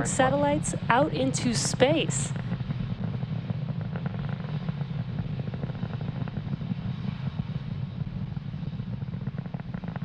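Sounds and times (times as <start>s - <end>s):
rocket engines rumbling: 0.0s - 10.0s.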